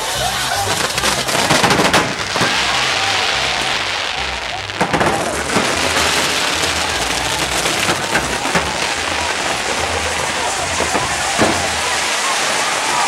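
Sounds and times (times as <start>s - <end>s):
firework pops and bangs: 0.0s - 13.0s
fireworks hissing and crackling: 0.0s - 13.0s.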